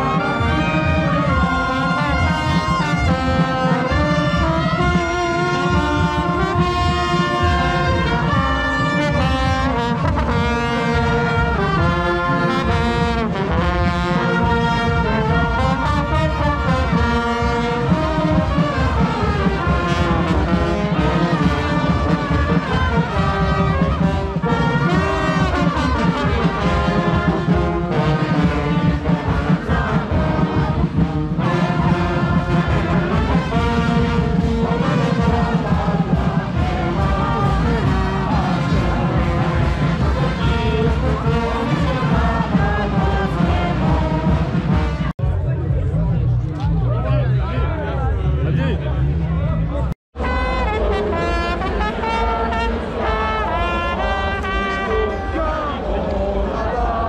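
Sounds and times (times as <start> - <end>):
brass band playing: 0.0 - 46.4, 47.2 - 57.0.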